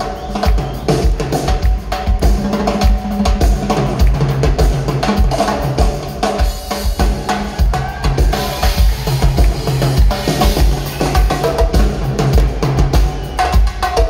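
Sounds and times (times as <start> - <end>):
congas: 0.0 - 14.0
drum kit playing: 0.0 - 14.0.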